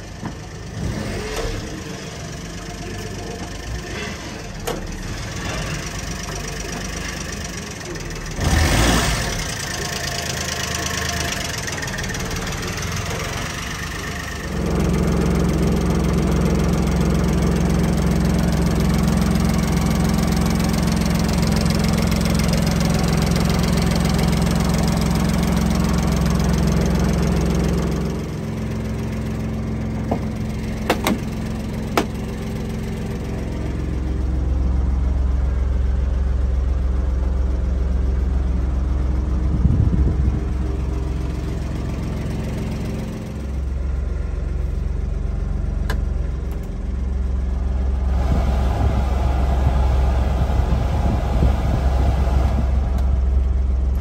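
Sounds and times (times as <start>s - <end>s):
small engine idling: 0.0s - 54.0s.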